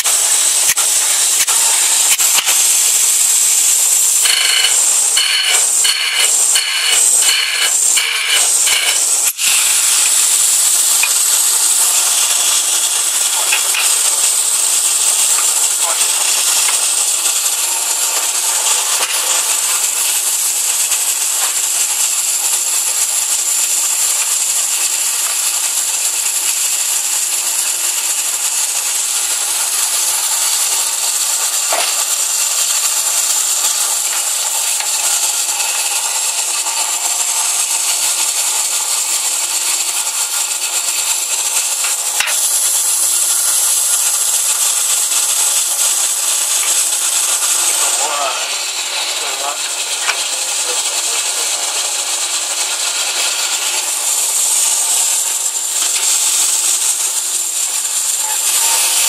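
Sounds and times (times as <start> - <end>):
capsule filling machine rattling: 0.0 - 59.0.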